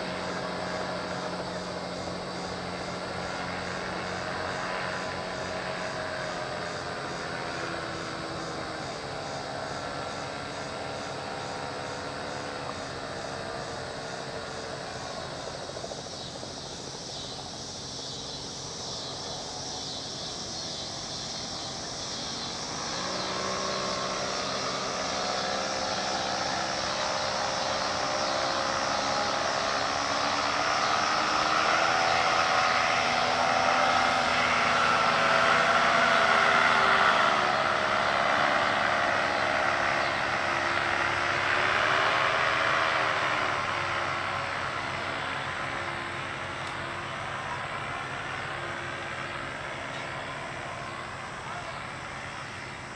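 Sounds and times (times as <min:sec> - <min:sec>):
paramotor engine droning: 0:00.0 - 0:52.9.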